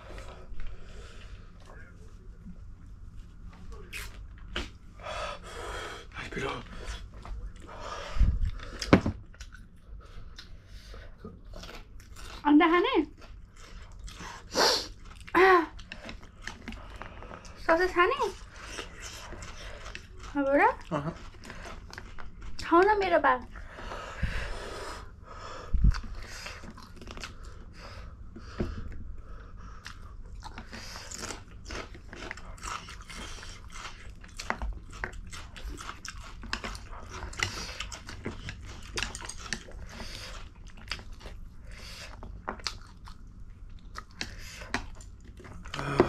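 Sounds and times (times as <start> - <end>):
people chewing crunchy food: 3.6 - 46.0.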